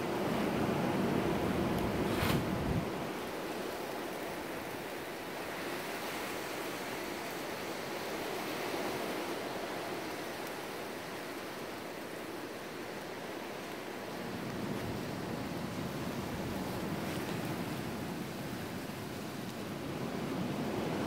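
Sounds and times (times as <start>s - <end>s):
strong gusty wind: 0.0s - 21.0s.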